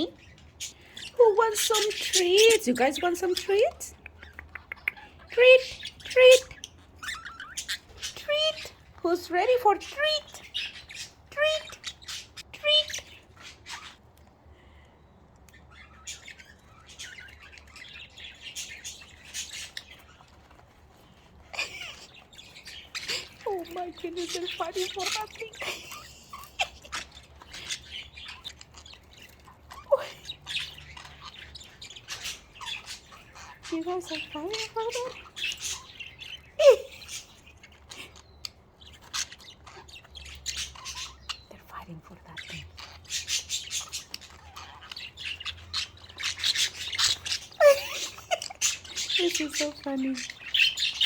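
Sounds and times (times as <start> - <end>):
budgerigars chirping: 0.0 - 14.0, 14.6 - 51.0.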